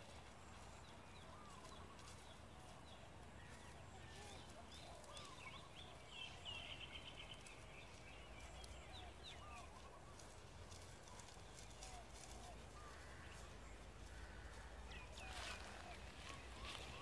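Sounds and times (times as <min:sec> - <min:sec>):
birds chirping and whistling: 0:00.5 - 0:14.0, 0:14.9 - 0:17.0.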